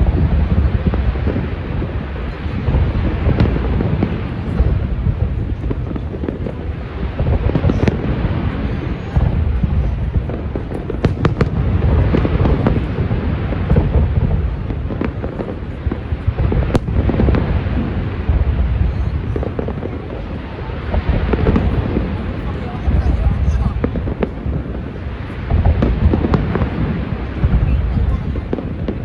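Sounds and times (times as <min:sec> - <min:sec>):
fireworks booming: 0:00.0 - 0:29.0
fireworks crackling: 0:00.0 - 0:29.0.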